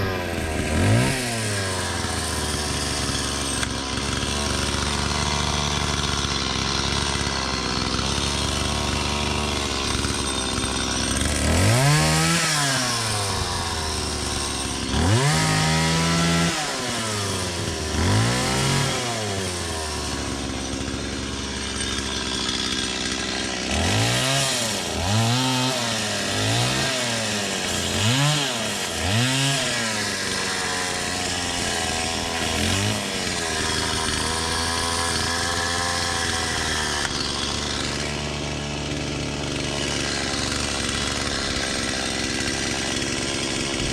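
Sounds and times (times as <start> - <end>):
chainsaw idling and revving: 0.0 - 43.9.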